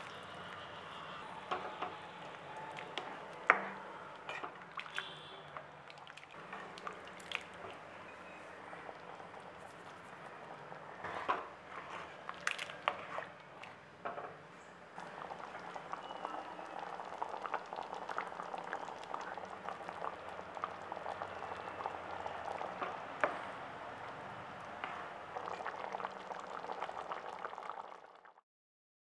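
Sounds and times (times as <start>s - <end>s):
thick stew bubbling: 0.0s - 28.4s.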